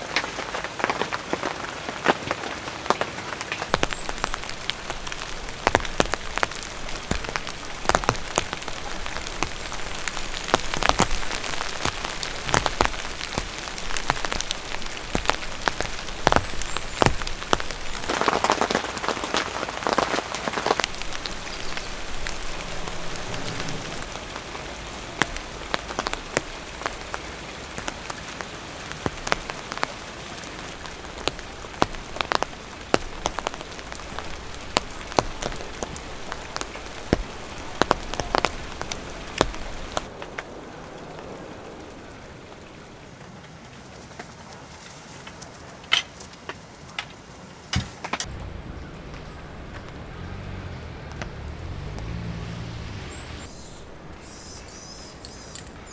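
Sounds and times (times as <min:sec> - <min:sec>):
large raindrops striking surface: 0:00.0 - 0:55.9
rain falling: 0:00.0 - 0:55.9.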